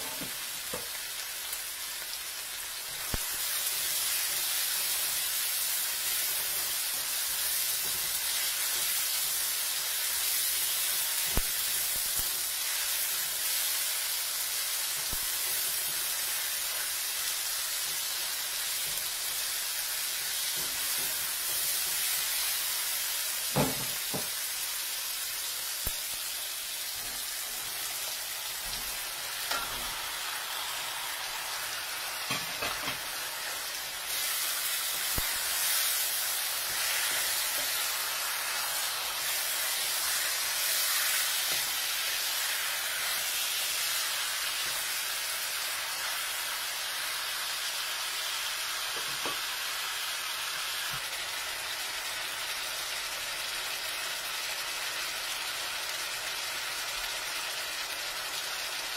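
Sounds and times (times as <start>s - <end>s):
food sizzling in a wok: 0.0s - 58.9s.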